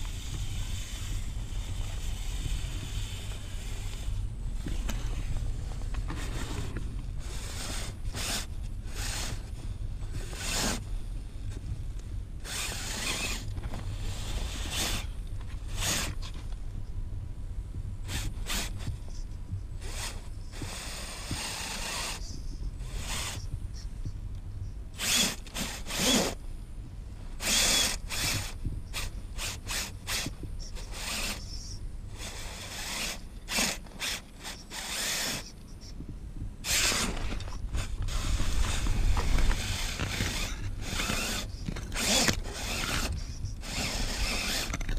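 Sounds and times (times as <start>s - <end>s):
electric motor and gears whirring: 0.0s - 17.0s, 17.6s - 44.9s
steady low rumble: 0.0s - 44.9s.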